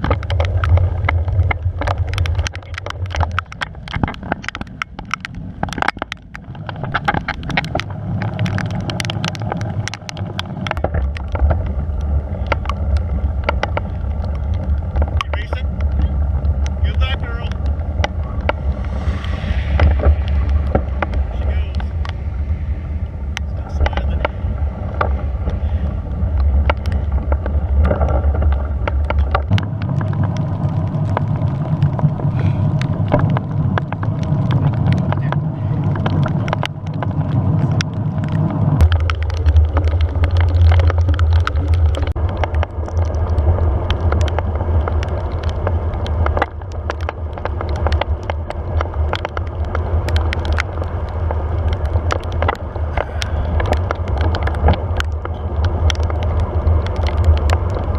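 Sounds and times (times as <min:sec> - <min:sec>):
small clicks and rattles: 0:00.0 - 0:22.2, 0:23.4 - 0:57.9
wind and road noise: 0:00.0 - 0:57.9.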